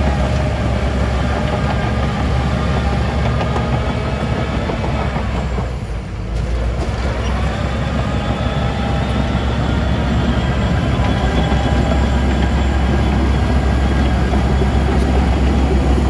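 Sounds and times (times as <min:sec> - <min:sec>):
diesel machinery engine rumble: 0:00.0 - 0:16.0.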